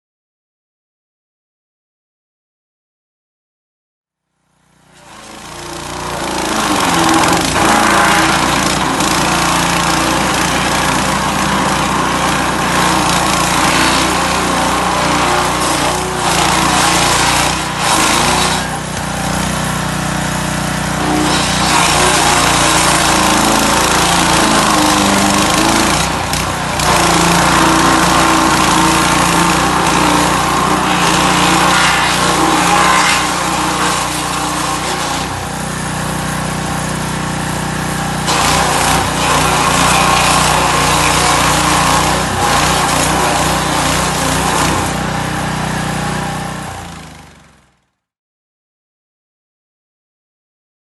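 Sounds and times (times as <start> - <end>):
wood chipper engine running: 4.3 - 47.9
material rushing through cutters: 4.9 - 47.1.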